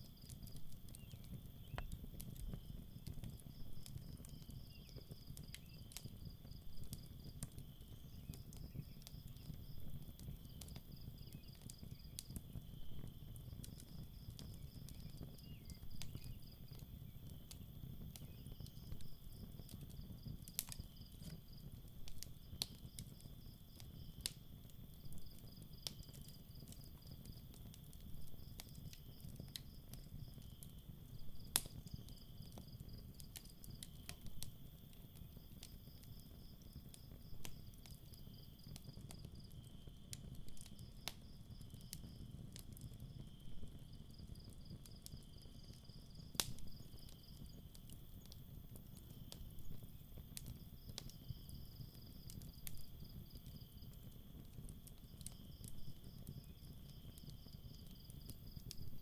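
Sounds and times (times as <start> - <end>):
campfire crackling and popping: 0.0 - 59.0
crickets chirping: 3.5 - 40.0, 43.4 - 59.0.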